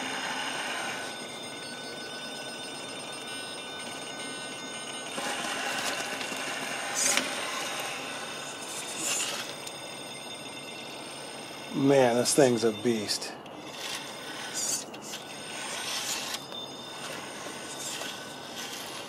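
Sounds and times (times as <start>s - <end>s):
electric motor whine: 0.0s - 19.0s.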